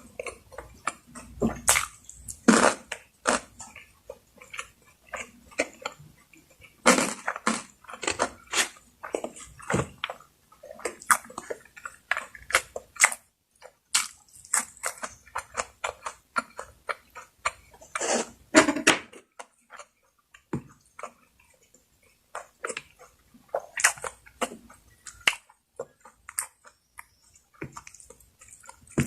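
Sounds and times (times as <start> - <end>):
person chewing with wet smacks: 0.0 - 29.0.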